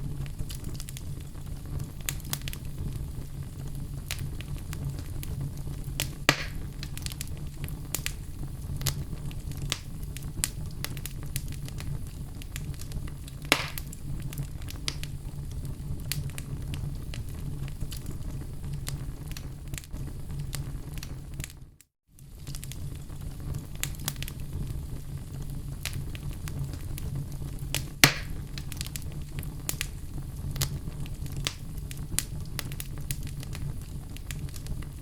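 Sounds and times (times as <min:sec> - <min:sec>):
fire crackling in a fireplace: 0:00.0 - 0:35.0
loud fire pops: 0:00.0 - 0:35.0.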